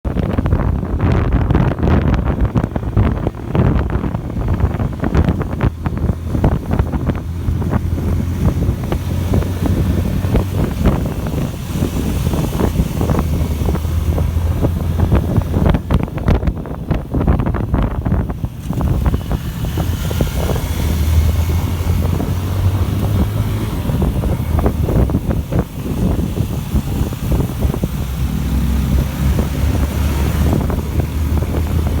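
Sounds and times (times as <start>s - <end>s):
motorcycle engine hum: 0.0s - 32.0s
wind buffeting microphone: 0.0s - 32.0s.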